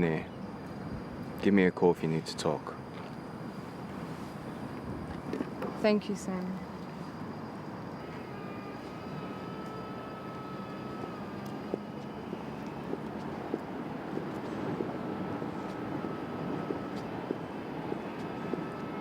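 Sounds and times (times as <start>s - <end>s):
faint thin whine: 0.0s - 19.0s
outdoor background rumble: 2.8s - 19.0s.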